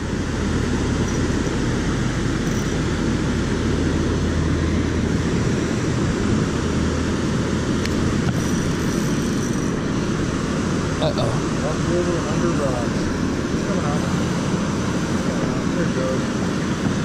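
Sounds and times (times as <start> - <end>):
water roaring through spillway: 0.0 - 17.0.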